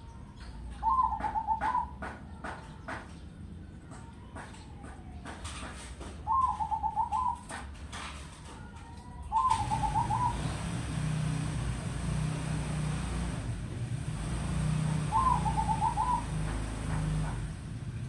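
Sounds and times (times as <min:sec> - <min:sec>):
dove singing: 0:00.0 - 0:18.0.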